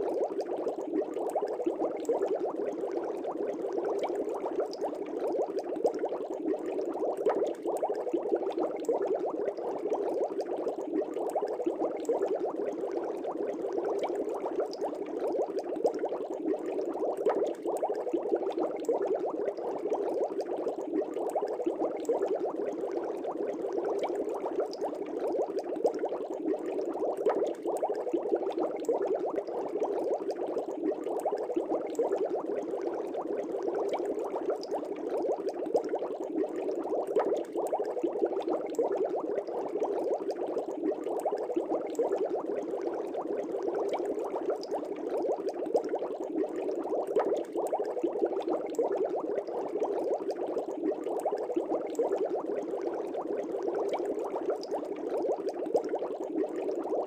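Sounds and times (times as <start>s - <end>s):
aquarium air bubbles: 0.0s - 57.0s.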